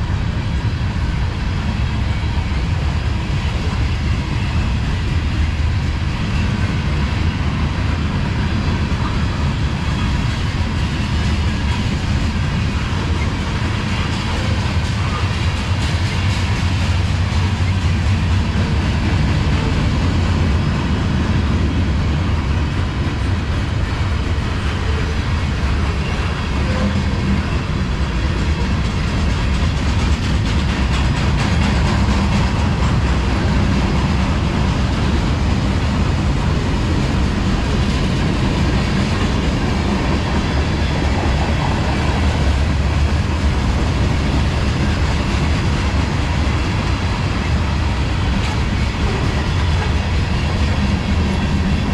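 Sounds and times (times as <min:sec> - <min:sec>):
train wheels clickety-clack: 0:00.0 - 0:51.9
train wheels rumbling on rails: 0:00.0 - 0:51.9.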